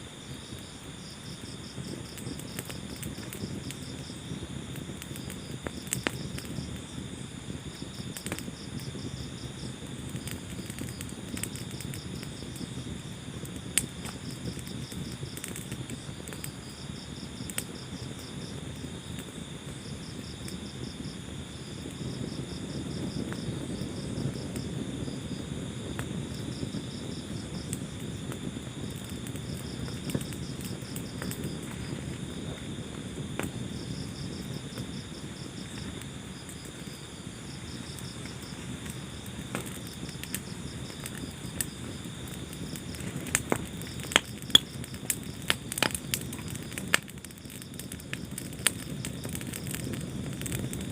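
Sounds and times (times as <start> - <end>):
crickets chirping: 0.0 - 50.9
wood fire crackling: 0.0 - 50.9.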